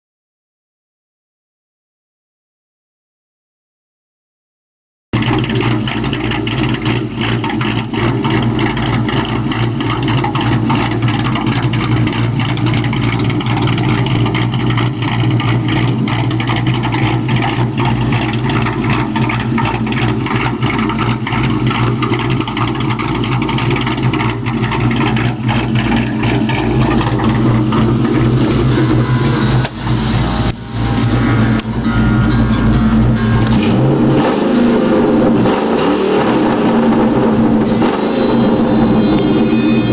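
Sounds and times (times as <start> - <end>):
loud car engine idling: 5.2 - 39.9.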